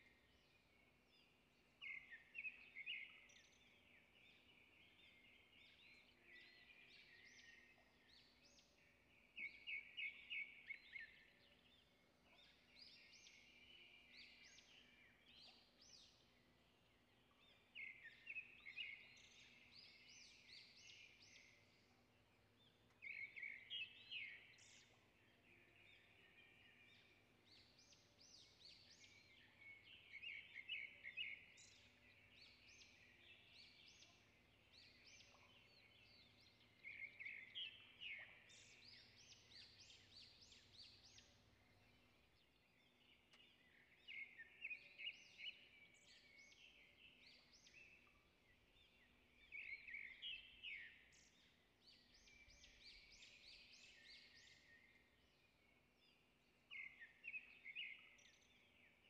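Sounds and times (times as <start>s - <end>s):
faint songbirds chirping: 0.0s - 59.0s.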